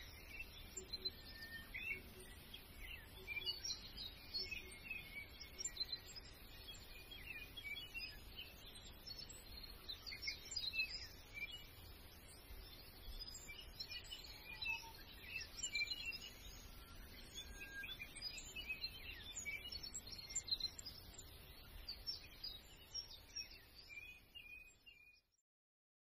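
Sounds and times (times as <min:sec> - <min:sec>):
songbirds chirping and singing: 0:00.0 - 0:25.4.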